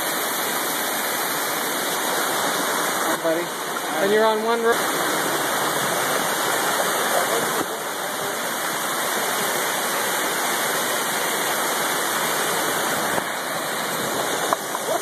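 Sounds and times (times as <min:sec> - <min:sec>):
waterfall pouring over rock: 0:00.0 - 0:15.0.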